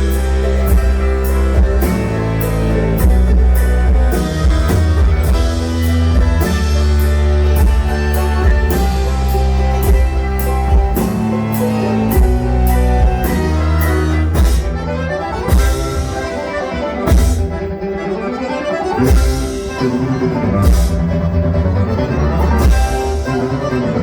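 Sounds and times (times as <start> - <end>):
live bluegrass band playing: 0.0 - 24.0
low bass notes: 0.0 - 24.0.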